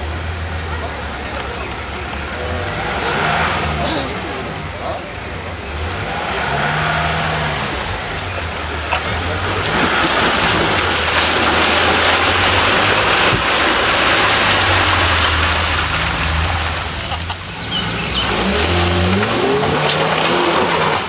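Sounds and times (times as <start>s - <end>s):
engine revving up: 0.0s - 21.0s
engine running under load: 0.0s - 21.0s.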